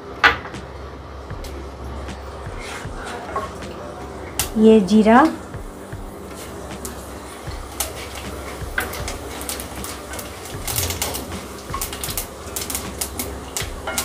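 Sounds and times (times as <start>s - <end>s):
seeds crackling in hot oil: 1.1s - 14.0s.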